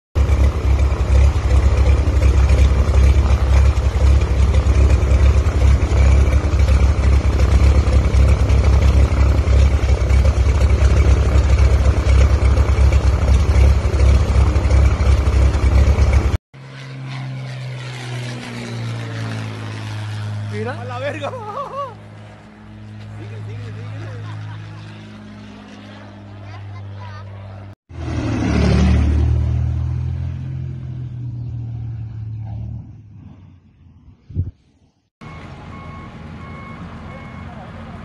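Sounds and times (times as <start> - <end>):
plane flying overhead: 0.2 - 38.0
propeller plane engine running: 0.2 - 38.0.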